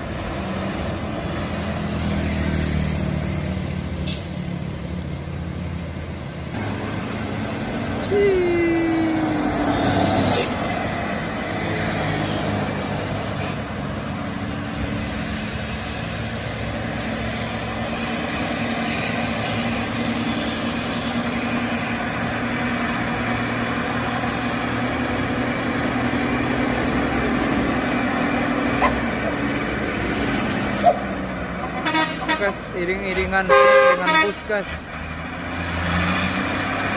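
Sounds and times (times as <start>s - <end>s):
diesel truck engine hum: 0.0s - 36.9s.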